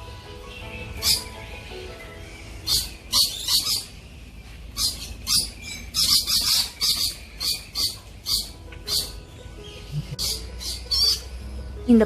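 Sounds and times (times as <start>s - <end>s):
birds chirping sharply: 0.0s - 11.5s.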